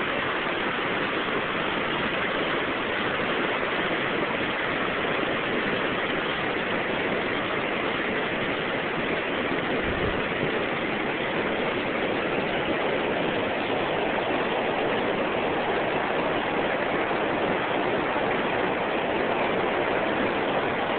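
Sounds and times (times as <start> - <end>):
floodwater rushing: 0.0 - 20.9.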